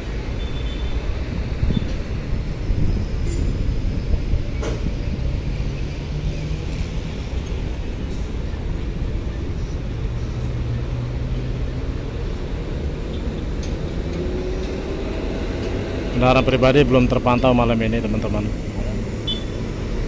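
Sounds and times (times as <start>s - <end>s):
diesel truck engines rumbling: 0.0s - 20.0s.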